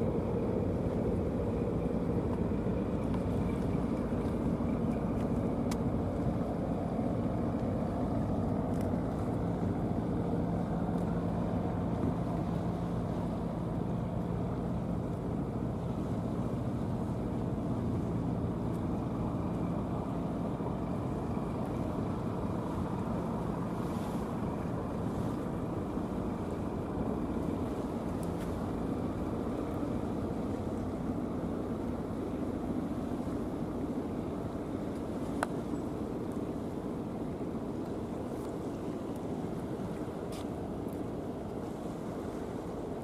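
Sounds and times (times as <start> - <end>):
engine droning: 0.0 - 43.0
water noise: 0.0 - 43.0.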